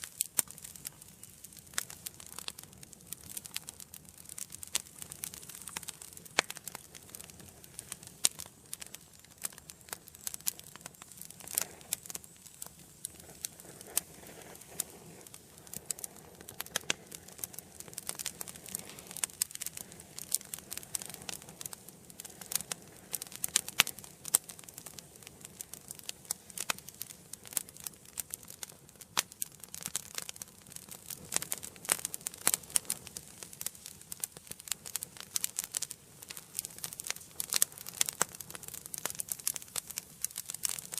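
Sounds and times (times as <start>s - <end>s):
flames hissing: 0.0s - 40.9s
logs crackling and popping: 0.0s - 40.9s.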